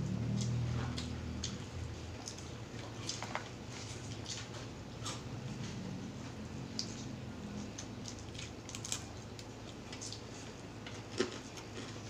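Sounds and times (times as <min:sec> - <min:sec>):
chewing crispy chicken skin: 0:00.2 - 0:05.2, 0:06.7 - 0:12.0.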